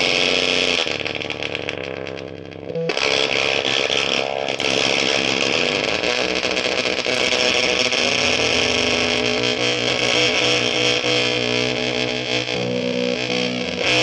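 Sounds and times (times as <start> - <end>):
heavily distorted electric guitar: 0.0 - 14.0.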